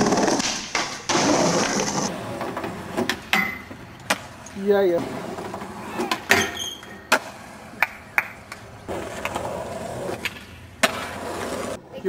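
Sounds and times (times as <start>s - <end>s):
skateboard clacking: 0.0s - 11.9s
skateboard wheels rolling on pavement: 0.0s - 12.0s.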